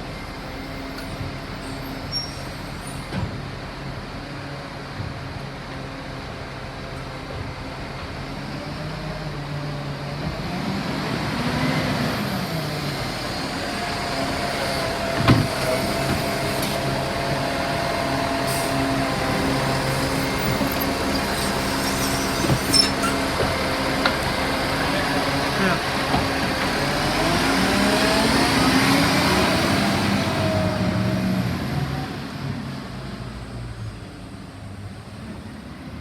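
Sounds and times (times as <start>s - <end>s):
garbage truck engine running: 0.0s - 32.6s.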